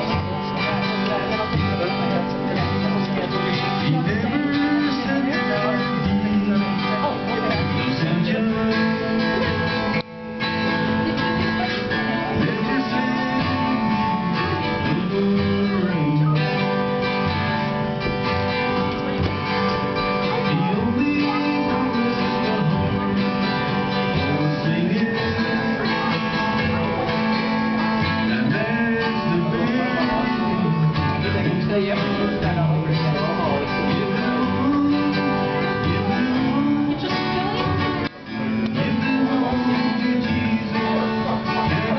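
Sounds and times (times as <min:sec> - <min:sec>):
acoustic guitar strumming: 0:00.0 - 0:41.9
man singing: 0:00.0 - 0:41.9.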